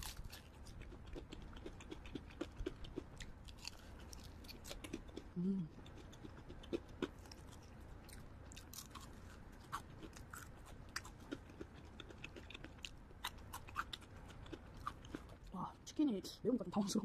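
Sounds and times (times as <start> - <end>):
chewing crispy chicken: 0.0 - 15.5.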